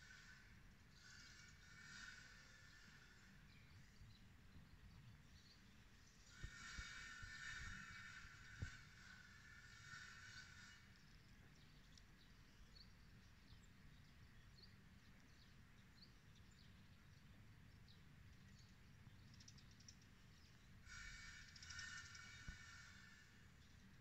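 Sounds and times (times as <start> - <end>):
distant bird chirps: 0.0 - 24.0
faint outdoor ambience: 0.0 - 24.0.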